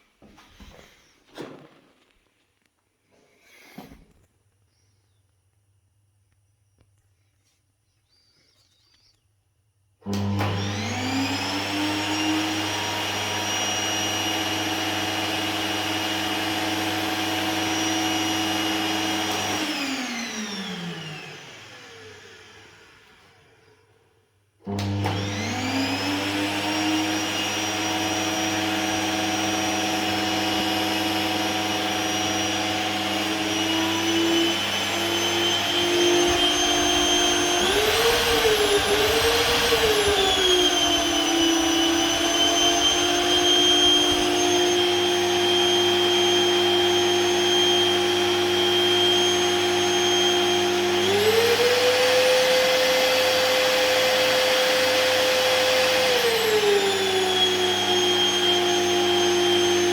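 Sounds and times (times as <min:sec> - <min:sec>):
vacuum cleaner motor whine: 0:10.0 - 0:59.9.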